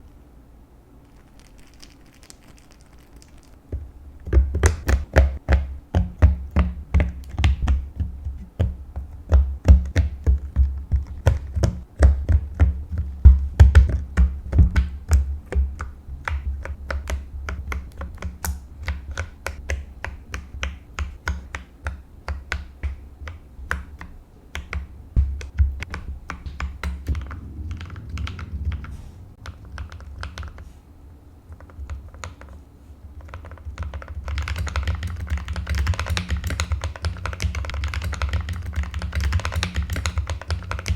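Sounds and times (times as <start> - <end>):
fast typing on mechanical keyboard: 1.1 - 3.6, 4.3 - 30.7, 31.5 - 32.6, 33.2 - 40.9.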